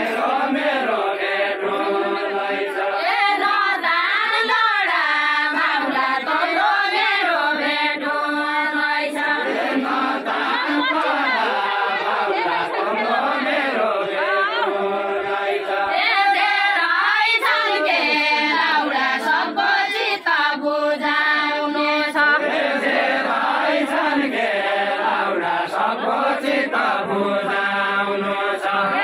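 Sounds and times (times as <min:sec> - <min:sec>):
group singing folk song: 0:00.0 - 0:29.0.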